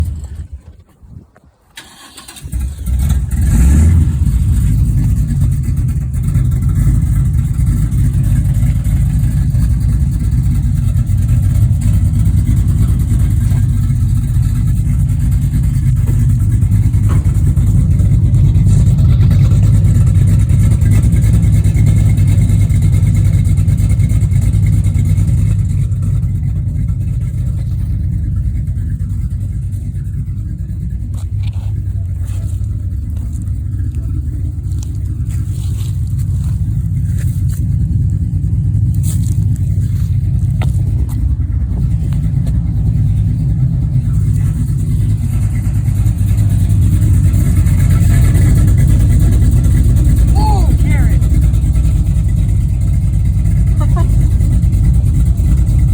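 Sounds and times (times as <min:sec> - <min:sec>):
truck engine low pulsing exhaust: 0:00.0 - 0:55.9.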